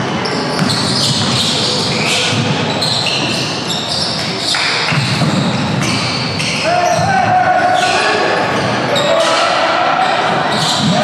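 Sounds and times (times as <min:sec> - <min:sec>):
crowd chatter: 0:00.0 - 0:11.0.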